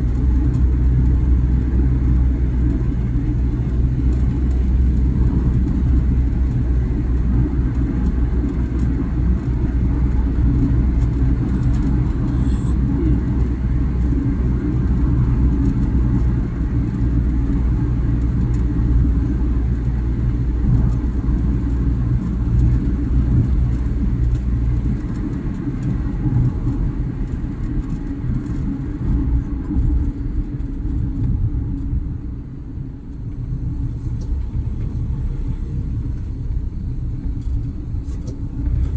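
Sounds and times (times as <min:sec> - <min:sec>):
car rumbling on the move: 0:00.0 - 0:38.9.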